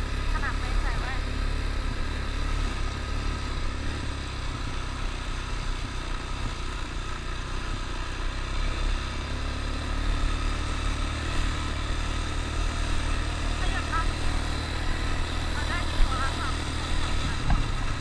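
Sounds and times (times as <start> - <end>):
atv engine running steadily: 0.0 - 18.0.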